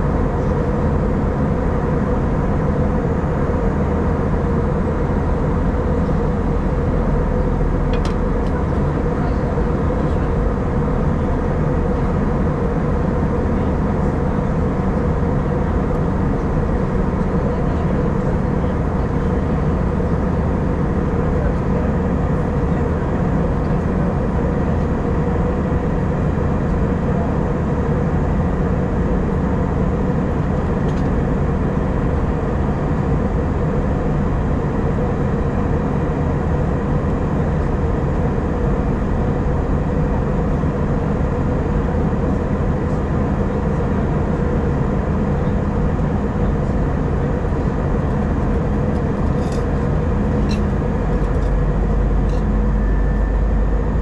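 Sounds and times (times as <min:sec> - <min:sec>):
jet engines droning: 0:00.0 - 0:54.0
steady hum: 0:00.0 - 0:54.0.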